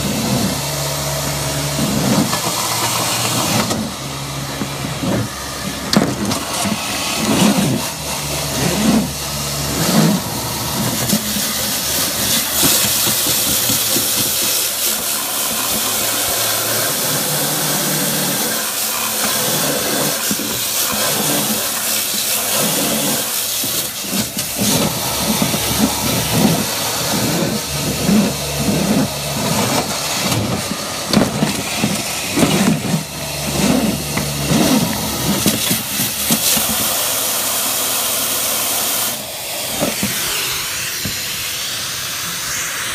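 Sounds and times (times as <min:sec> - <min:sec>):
rushing hiss of air in duct: 0:00.0 - 0:42.9.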